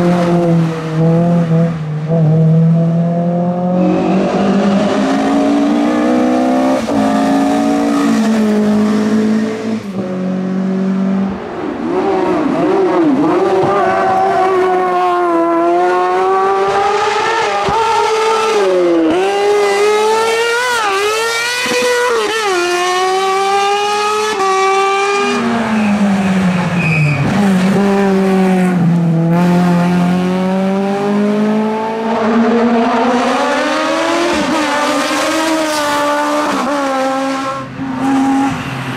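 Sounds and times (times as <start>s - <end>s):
race car engine revving: 0.0s - 26.5s, 27.2s - 38.9s.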